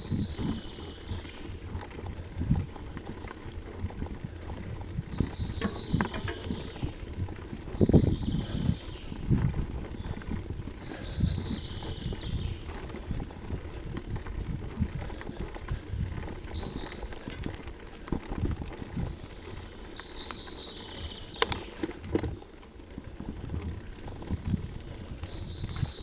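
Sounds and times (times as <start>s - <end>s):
bike rattling over bumps: 0.0s - 26.0s
bike tyres rumbling on dirt: 0.0s - 26.0s.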